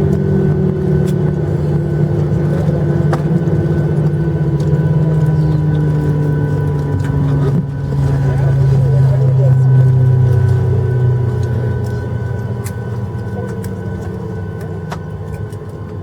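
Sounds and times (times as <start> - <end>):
jet engines idling hum: 0.0 - 16.0.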